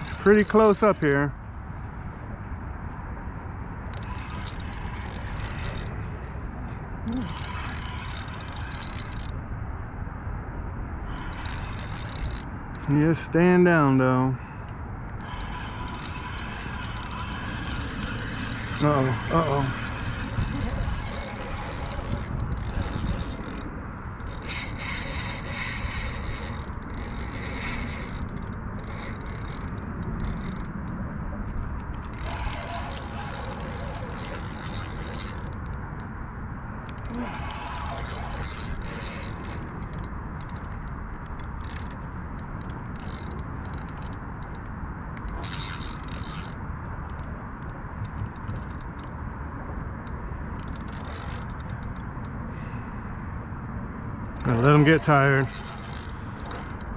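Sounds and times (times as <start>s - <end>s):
fishing reel scraping and ticking: 0.0s - 1.4s, 3.7s - 9.5s, 11.0s - 14.0s, 15.0s - 52.6s, 54.2s - 56.9s
wind rumbling on microphone: 0.0s - 56.9s.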